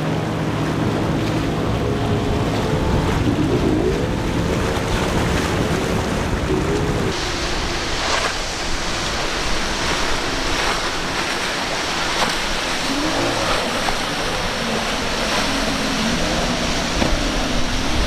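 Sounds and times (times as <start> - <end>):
faint outboard engines: 0.0 - 18.0
surf and churning water: 0.0 - 18.0
wind on microphone: 0.0 - 18.0.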